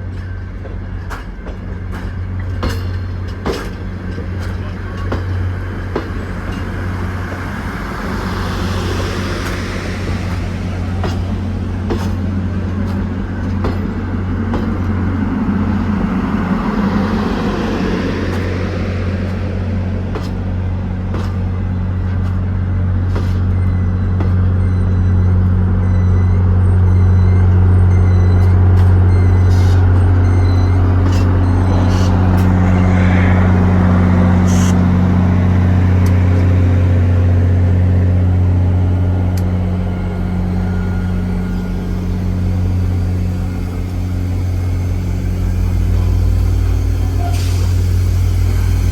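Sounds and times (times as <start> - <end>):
train running noise: 0.0 - 48.9.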